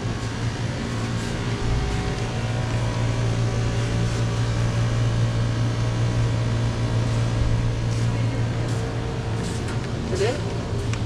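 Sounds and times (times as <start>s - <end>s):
machinery hum with hiss: 0.0s - 11.0s.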